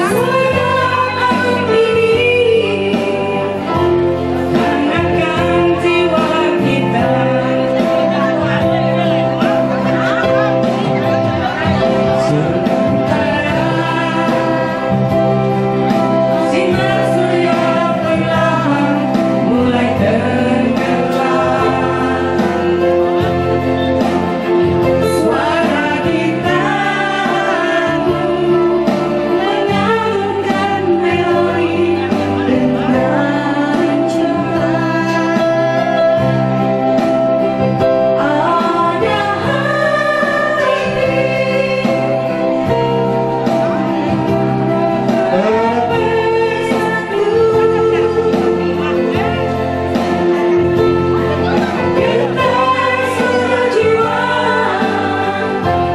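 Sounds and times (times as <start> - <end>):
instrumental backing music: 0.0 - 55.9
woman singing into microphone: 0.0 - 55.9.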